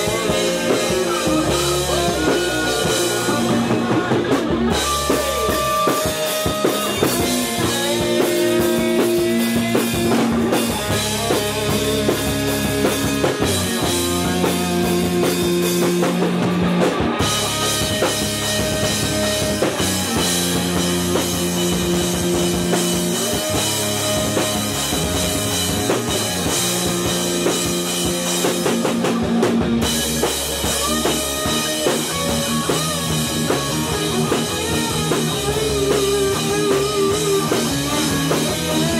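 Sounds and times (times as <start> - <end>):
drum kit drumming: 0.0 - 38.9
electric bass: 0.0 - 38.9
electric guitar: 0.0 - 38.9
heavy metal band playing: 0.0 - 38.9.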